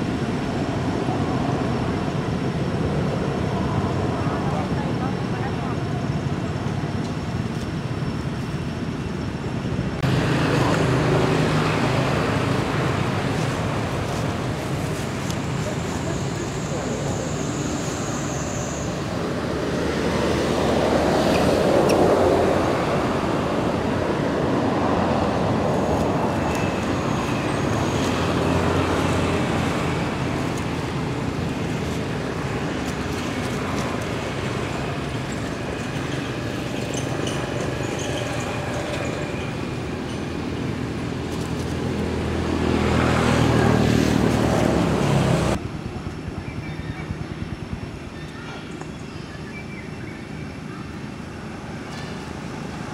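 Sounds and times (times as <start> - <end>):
distant road traffic: 0.0 - 52.9.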